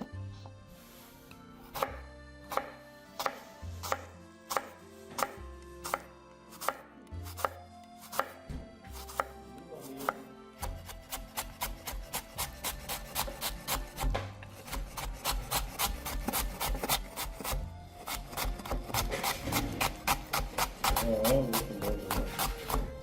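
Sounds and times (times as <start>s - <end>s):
knife chopping on cutting board: 1.7s - 23.0s.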